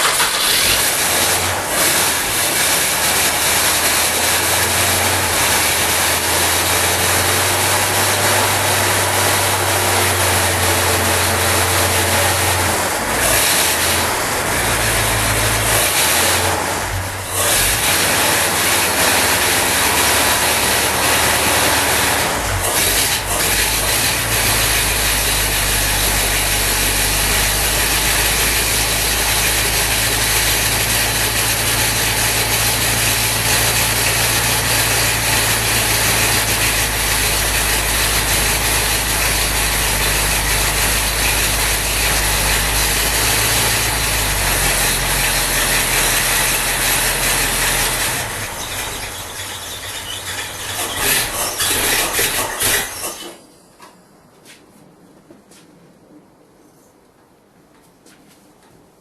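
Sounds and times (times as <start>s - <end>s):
machinery humming: 0.0s - 53.6s.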